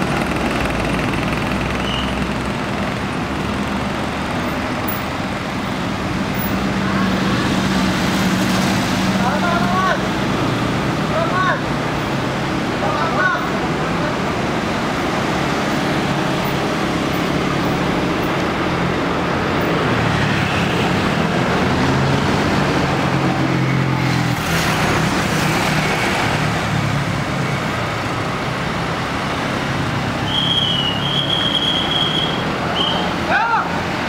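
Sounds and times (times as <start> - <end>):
passing traffic: 0.0 - 34.0.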